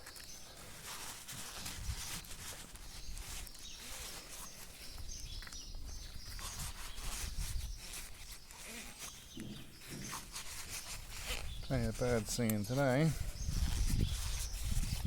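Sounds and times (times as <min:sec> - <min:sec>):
small clicks and rubbing of parts: 0:00.0 - 0:11.5, 0:12.1 - 0:13.0
birds singing: 0:00.0 - 0:15.0.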